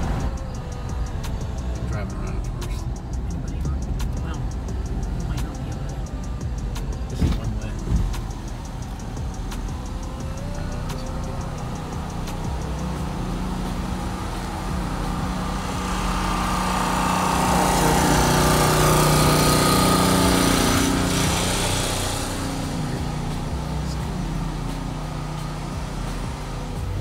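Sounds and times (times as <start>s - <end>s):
portable generator engine running: 0.0s - 27.0s.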